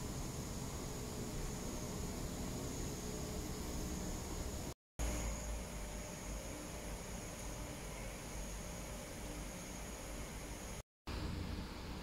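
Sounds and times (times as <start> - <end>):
steady background hiss: 0.0 - 12.0
thin high whine: 0.0 - 12.0.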